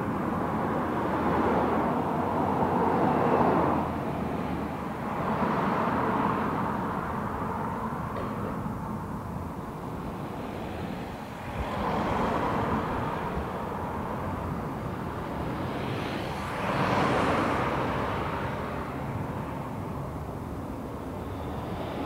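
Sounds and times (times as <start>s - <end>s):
cars passing by: 0.0s - 22.0s.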